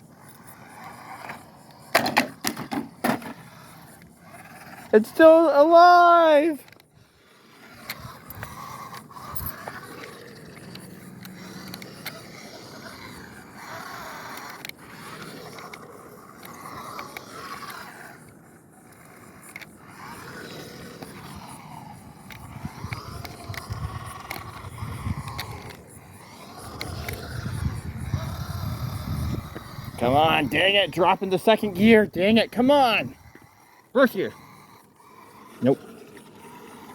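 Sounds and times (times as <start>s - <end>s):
clicks over rough ground: 0.0s - 36.9s
toy car electric motor whining: 0.0s - 36.9s.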